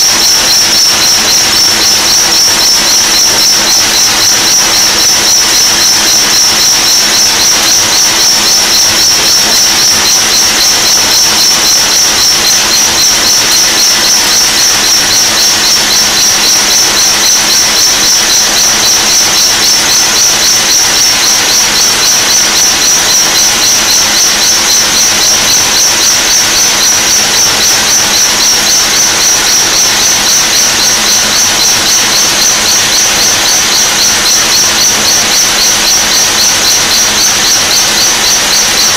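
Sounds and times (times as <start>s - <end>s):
high-pitched machine whine: 0.0s - 38.9s.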